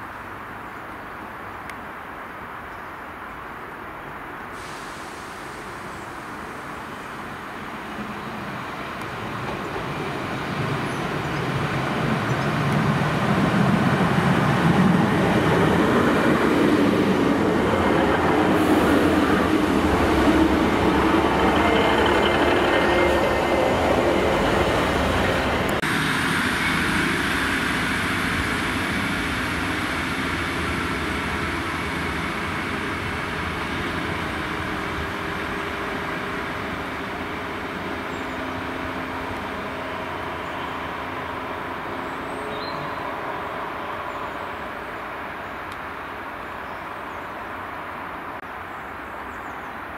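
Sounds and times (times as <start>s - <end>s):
diesel train engines: 4.0s - 48.4s
train wheels on rails: 4.5s - 46.0s.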